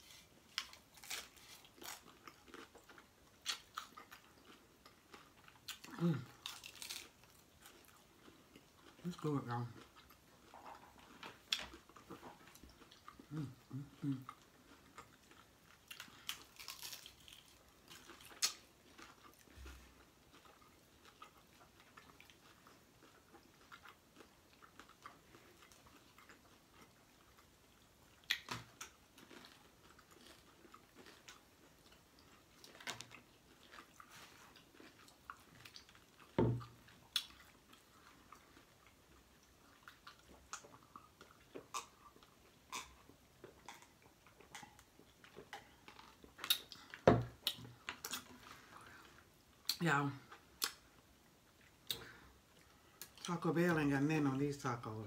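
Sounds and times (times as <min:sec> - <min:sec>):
chewing crunchy taco shells: 0:00.0 - 0:53.4.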